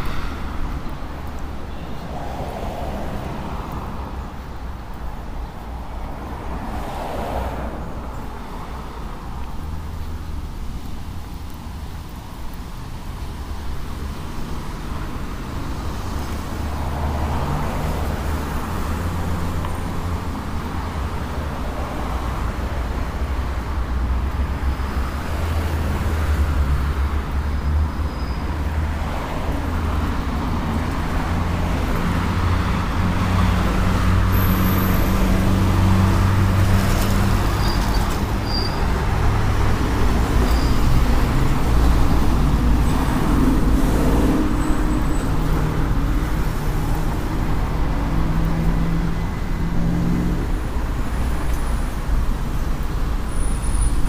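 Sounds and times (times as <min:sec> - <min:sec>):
car traffic rumbling past: 0:00.0 - 0:10.7, 0:13.1 - 0:54.0.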